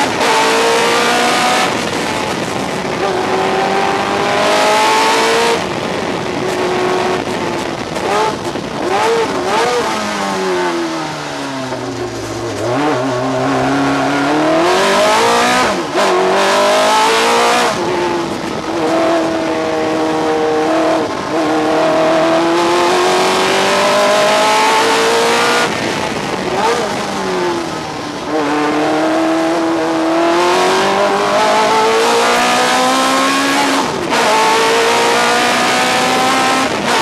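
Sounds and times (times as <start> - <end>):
racing car engine revving: 0.0 - 37.0.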